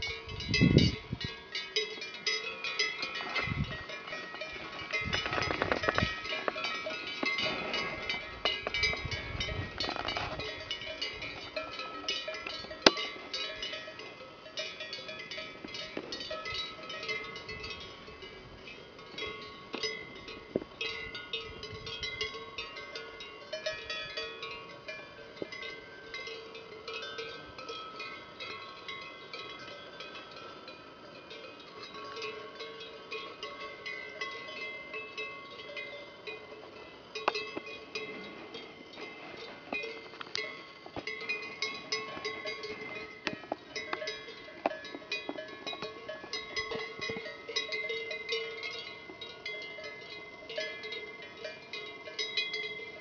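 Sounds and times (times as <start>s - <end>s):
cow bells clanking: 0.0s - 53.0s.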